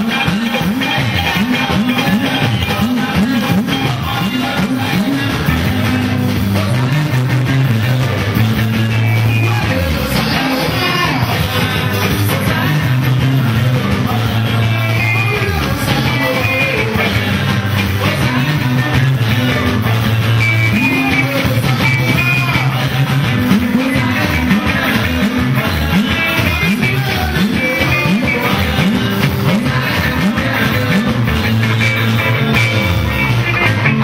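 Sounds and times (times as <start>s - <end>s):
bass line: 0.0s - 34.0s
drums: 0.0s - 34.0s
electric guitar lines: 0.0s - 34.0s
voices singing: 0.0s - 34.0s.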